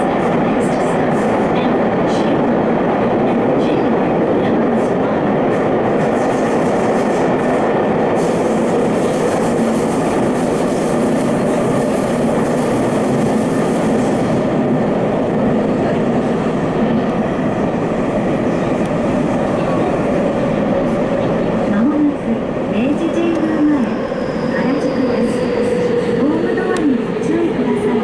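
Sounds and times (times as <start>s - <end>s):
subway train rumbling in tunnel: 0.0s - 28.0s.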